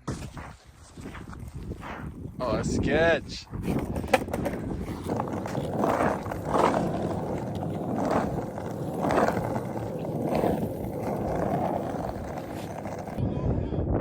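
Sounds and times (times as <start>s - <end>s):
skateboard wheels rolling: 0.0s - 3.0s, 3.6s - 13.2s.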